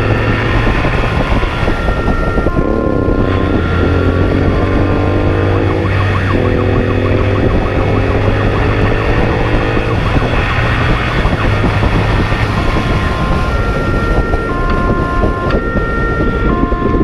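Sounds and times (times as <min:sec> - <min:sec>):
motorcycle engine accelerating: 0:00.0 - 0:17.0
police siren: 0:00.0 - 0:17.0
wind rushing: 0:00.0 - 0:17.0.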